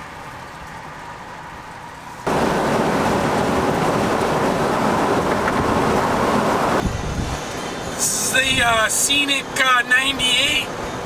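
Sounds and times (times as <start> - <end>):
wind and road noise of vehicle: 0.0 - 11.0.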